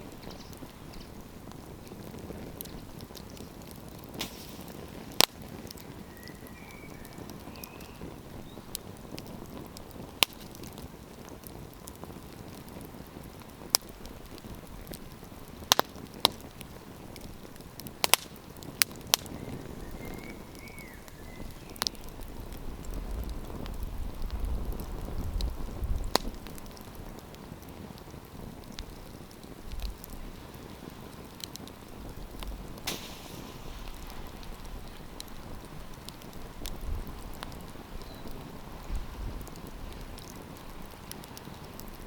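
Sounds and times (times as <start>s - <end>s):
campfire hissing and crackling: 0.0s - 42.0s
sharp fire pops: 0.0s - 42.0s.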